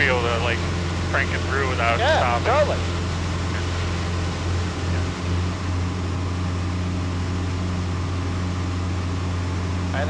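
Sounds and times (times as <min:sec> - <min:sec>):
airplane engine and propeller droning: 0:00.0 - 0:10.0.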